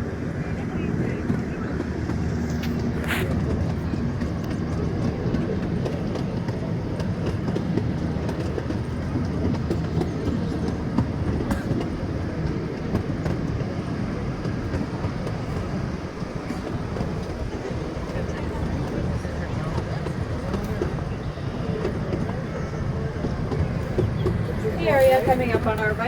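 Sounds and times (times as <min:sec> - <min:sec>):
miniature train rumbling: 0:00.0 - 0:26.0
wheels clicking over rail joints: 0:01.3 - 0:26.0.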